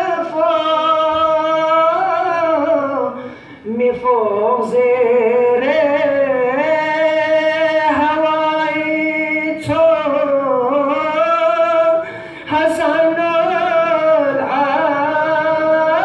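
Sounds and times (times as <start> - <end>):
man singing with vibrato: 0.0 - 16.0.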